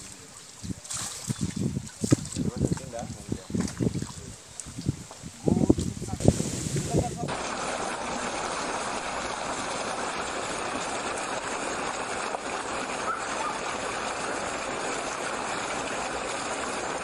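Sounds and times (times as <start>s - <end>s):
churning water rushing: 0.0s - 17.0s
people wading through water: 0.0s - 17.0s.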